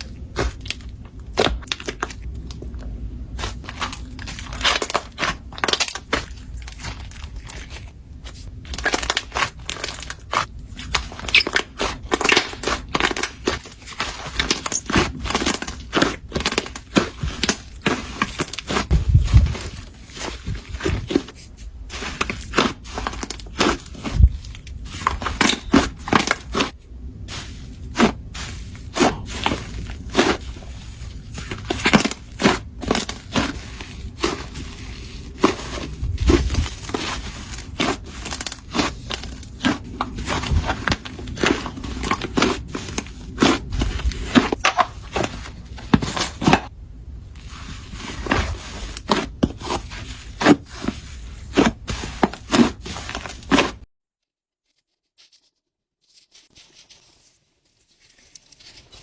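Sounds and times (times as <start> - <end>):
slime squishing and crackling: 0.0 - 46.7, 47.3 - 53.9.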